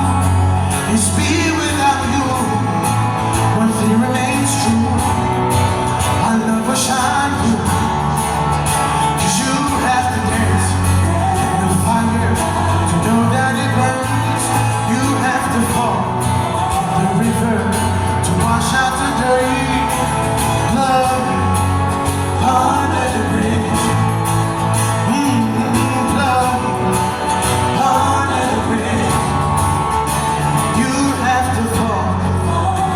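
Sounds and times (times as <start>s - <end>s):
live band music: 0.0s - 32.9s
person singing: 0.0s - 32.9s.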